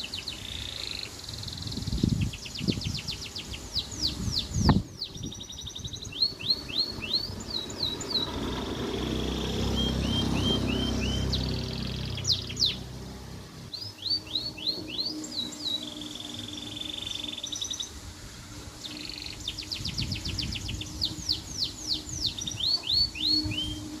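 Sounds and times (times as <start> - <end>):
canary singing: 0.0 - 18.0, 18.8 - 24.0.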